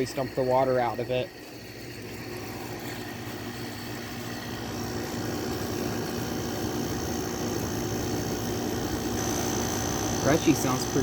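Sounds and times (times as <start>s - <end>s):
air conditioner hum: 0.0s - 11.0s.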